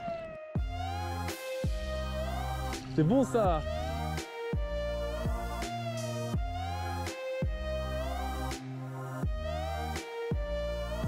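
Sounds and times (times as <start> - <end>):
deep bass: 0.0 - 11.0
synth melody: 0.0 - 11.0.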